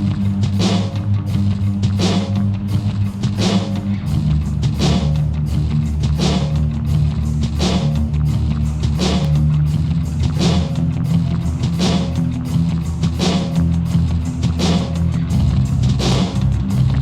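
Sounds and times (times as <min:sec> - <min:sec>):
rock music with guitar and drums: 0:00.0 - 0:17.0.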